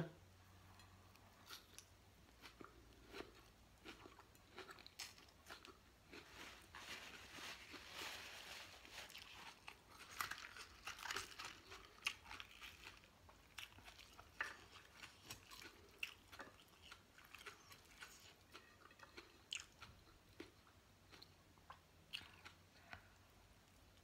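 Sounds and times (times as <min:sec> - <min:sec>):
crisp chewing crunches: 0:01.4 - 0:23.0.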